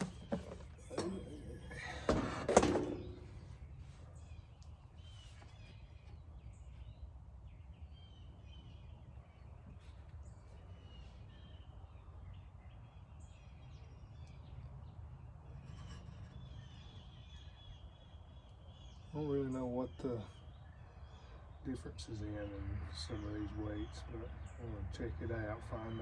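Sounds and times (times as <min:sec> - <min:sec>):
birds chirping faintly: 0:00.0 - 0:26.0
low background hum: 0:00.0 - 0:26.0.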